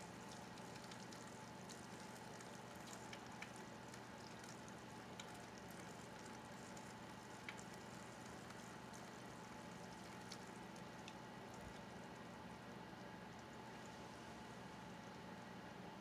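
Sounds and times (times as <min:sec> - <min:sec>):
small drip ticks: 0:00.0 - 0:15.3.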